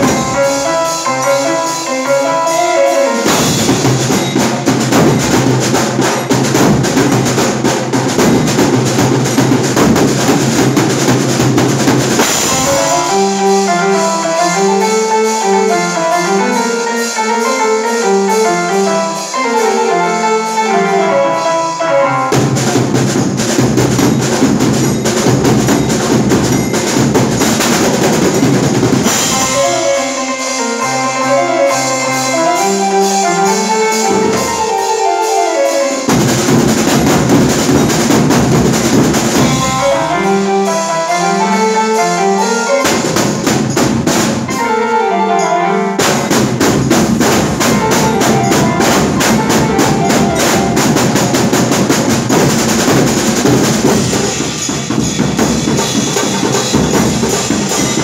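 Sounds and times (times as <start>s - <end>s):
rapid drumming: 0.0s - 44.8s, 46.0s - 58.0s
keyboard melody: 0.0s - 58.0s.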